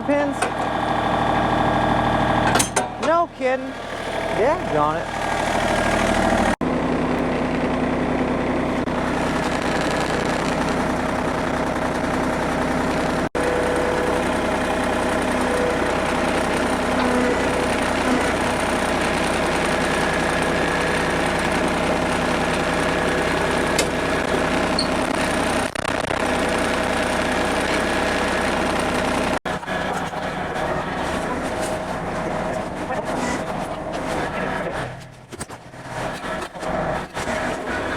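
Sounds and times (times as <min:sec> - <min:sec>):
diesel tractor engine running: 0:00.0 - 0:37.9.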